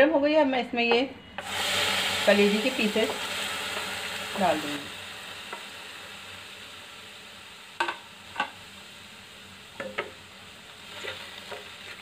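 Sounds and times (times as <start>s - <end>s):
liver sizzling in a hot pan: 1.4s - 12.0s.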